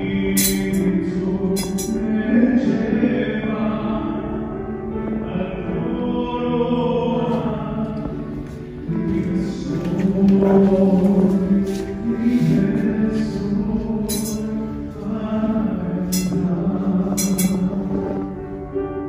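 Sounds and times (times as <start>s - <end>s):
choir singing: 0.0s - 8.3s, 8.9s - 18.4s.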